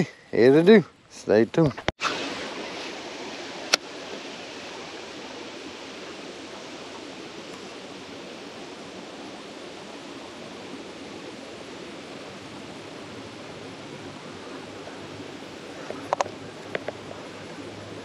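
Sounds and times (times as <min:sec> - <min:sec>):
flowing water rushing: 0:02.0 - 0:18.0.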